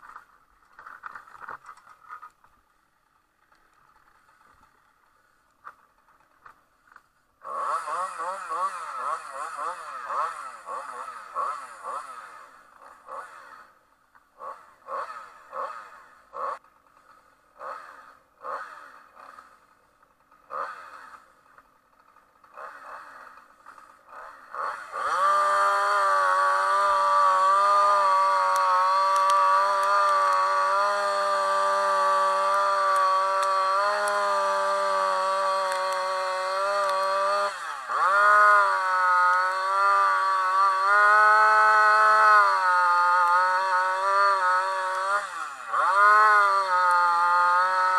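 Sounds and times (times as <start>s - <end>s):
gas-powered saw cutting roof: 6.4s - 47.9s.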